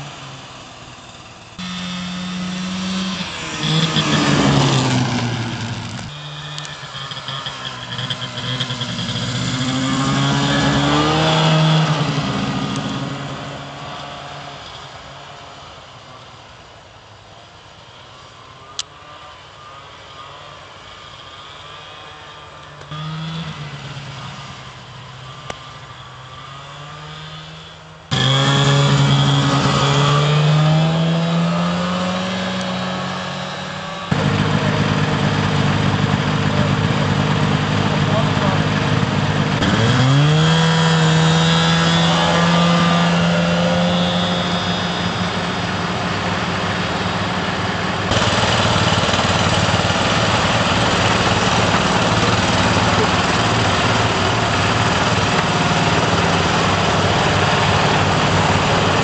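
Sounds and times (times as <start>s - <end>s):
snowmobile engine driving past: 0.0s - 16.5s, 17.4s - 59.0s.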